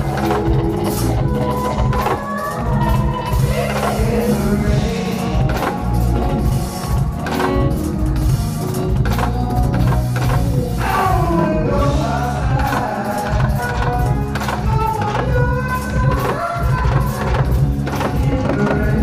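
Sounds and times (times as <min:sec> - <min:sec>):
drum kit: 0:00.0 - 0:19.0
electric guitar: 0:00.0 - 0:19.0
live band playing: 0:00.0 - 0:19.0.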